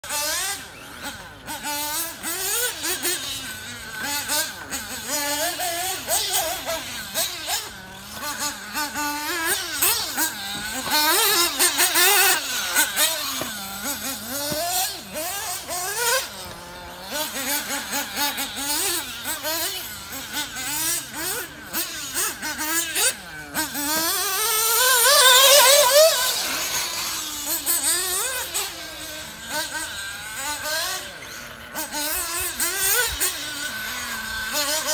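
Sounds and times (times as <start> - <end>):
small engine revving: 0.0 - 34.9.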